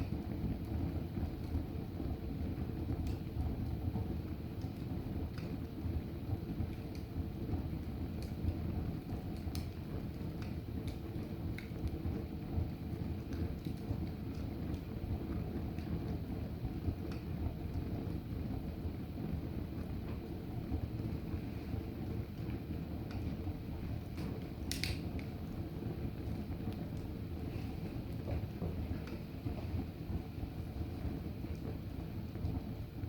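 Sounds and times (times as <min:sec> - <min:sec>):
fire crackling in fireplace: 0:00.0 - 0:33.0.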